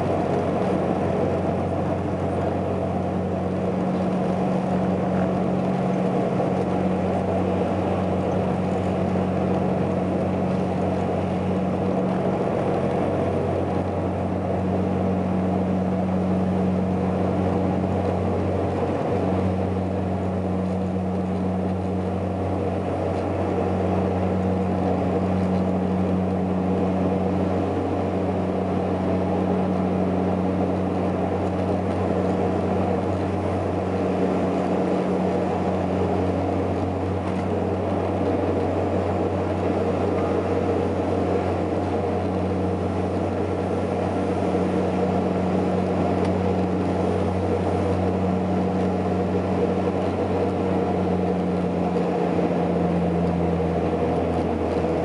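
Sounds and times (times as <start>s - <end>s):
rushing airflow: 0.0s - 55.0s
turboprop engines droning: 0.0s - 55.0s.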